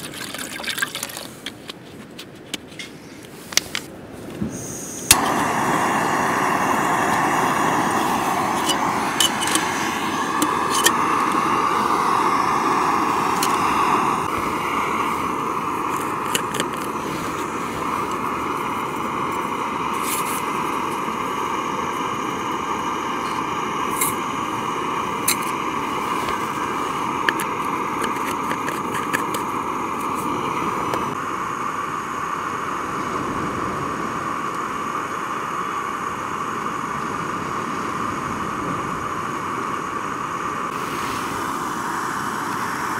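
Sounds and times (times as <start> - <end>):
gas stove hissing: 2.9 - 42.9.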